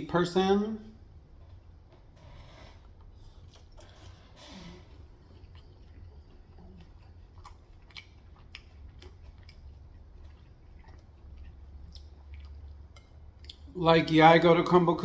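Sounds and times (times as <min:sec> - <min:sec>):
steady low hum: 0:00.0 - 0:15.0
crunchy chewing: 0:01.3 - 0:14.5.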